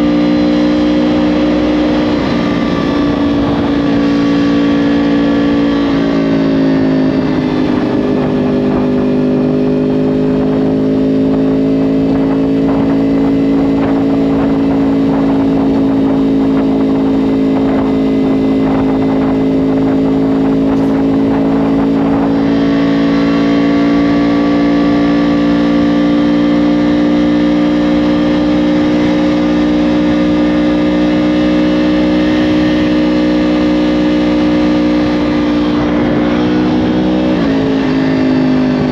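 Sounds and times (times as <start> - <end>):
motorcycle engine revving while riding: 0.0 - 38.9.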